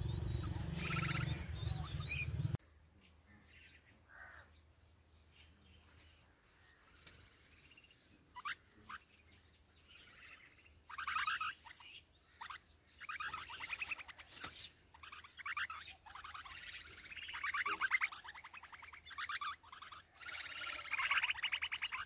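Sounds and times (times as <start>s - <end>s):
nestling birds chirping: 0.0s - 22.0s.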